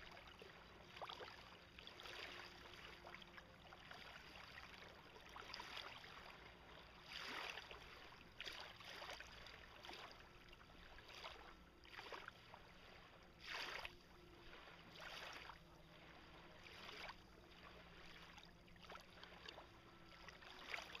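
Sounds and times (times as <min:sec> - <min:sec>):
water splashing and lapping: 0:00.0 - 0:21.0.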